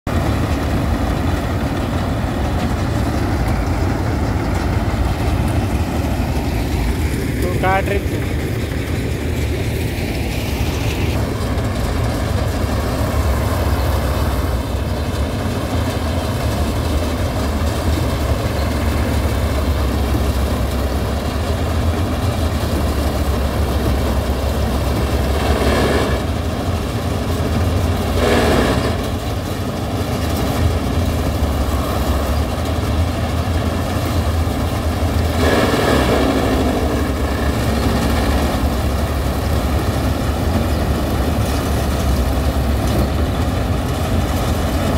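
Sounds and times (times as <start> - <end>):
combine harvester engine drone: 0.1 - 44.9.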